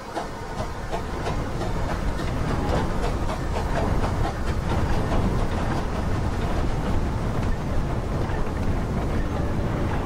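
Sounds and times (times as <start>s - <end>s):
model train wheels rumbling on track: 0.0s - 10.0s.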